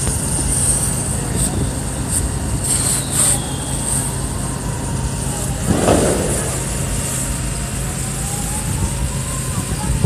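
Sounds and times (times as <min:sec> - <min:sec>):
low engine rumble: 0:00.0 - 0:10.0
rushing burst of noise: 0:00.0 - 0:10.0.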